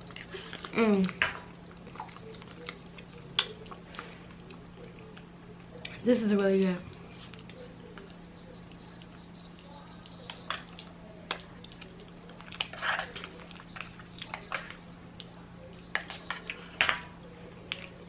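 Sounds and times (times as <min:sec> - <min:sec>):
crunchy chewing: 0:00.0 - 0:06.0, 0:06.9 - 0:18.0
low electrical hum: 0:00.0 - 0:18.0.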